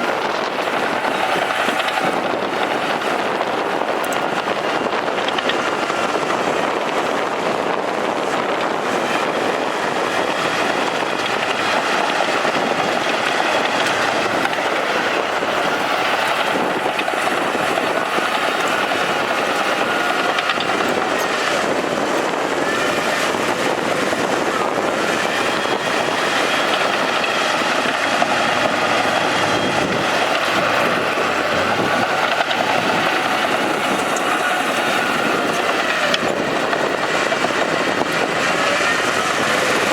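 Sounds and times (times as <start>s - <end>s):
bulldozer diesel engine running: 0.0s - 39.9s
steel tracks clanking: 0.0s - 39.9s.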